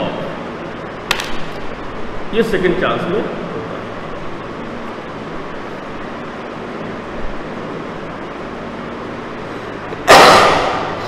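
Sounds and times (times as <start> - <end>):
room hiss and low hum: 0.0 - 11.0.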